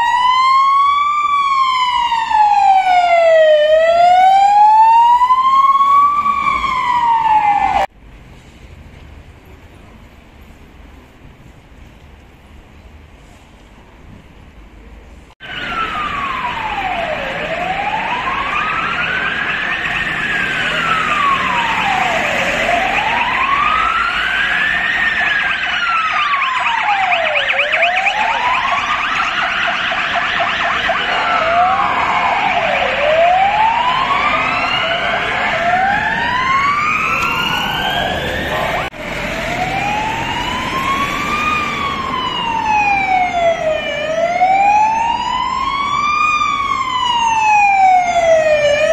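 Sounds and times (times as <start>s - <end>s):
ambulance siren wailing: 0.0s - 7.9s, 15.4s - 48.9s
police siren fast high wail: 0.0s - 7.9s, 15.4s - 48.9s.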